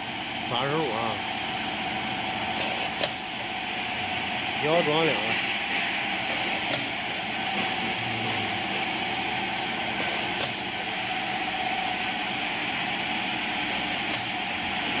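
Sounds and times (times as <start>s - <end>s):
dough dividing machine whirring: 0.0s - 15.0s.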